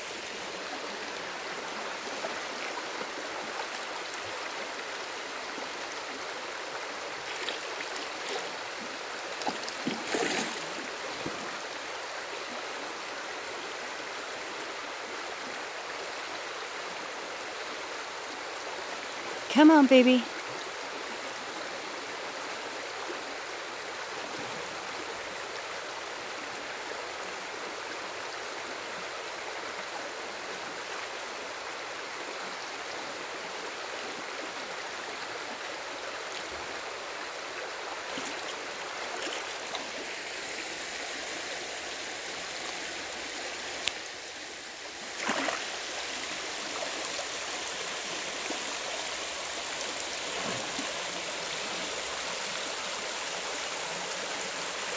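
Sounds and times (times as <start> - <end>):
stream rippling over gravel: 0.0 - 54.9.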